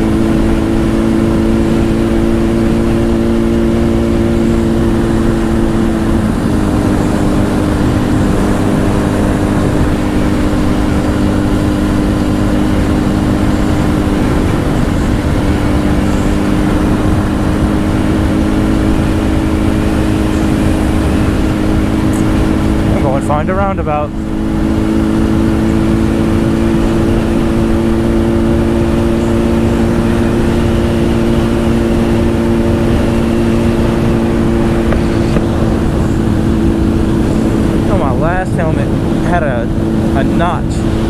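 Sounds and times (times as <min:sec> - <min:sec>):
motorcycle engine running: 0:00.0 - 0:41.0
wind noise on microphone: 0:00.0 - 0:41.0.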